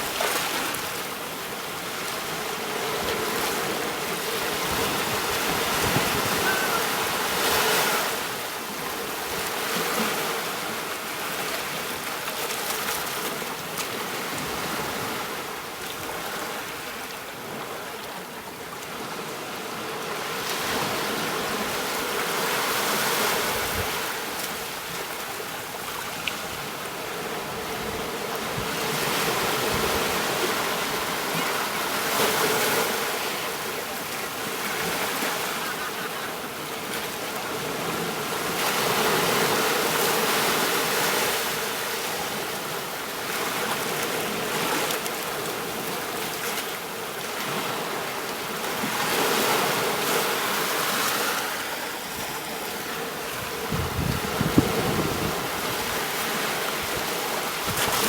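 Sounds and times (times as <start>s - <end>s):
ocean surf on a beach: 0.0s - 58.0s.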